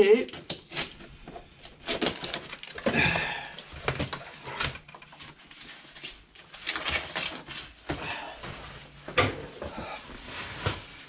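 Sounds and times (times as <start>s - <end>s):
cardboard rustling: 0.6s - 11.0s.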